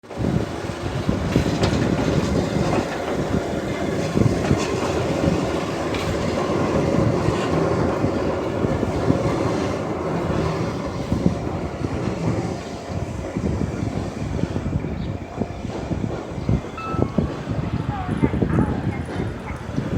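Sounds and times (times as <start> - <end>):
train running on rails: 0.0 - 19.9
wheels clicking over rail joints: 0.7 - 19.9.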